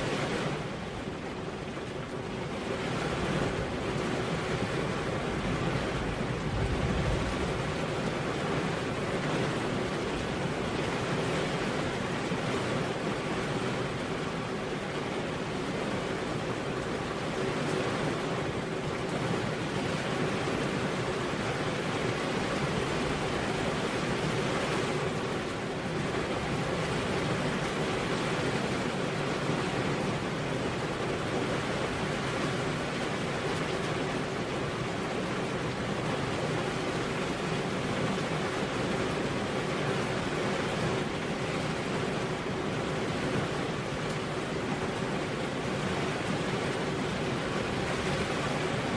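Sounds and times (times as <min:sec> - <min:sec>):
heavy rain on a road: 0:00.0 - 0:48.9.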